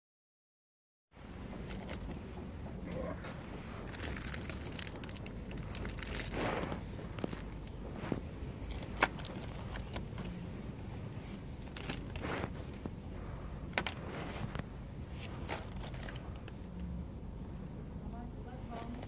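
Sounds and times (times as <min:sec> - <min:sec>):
low steady hum: 0:01.2 - 0:19.0
plastic tubes rustling: 0:01.5 - 0:16.9.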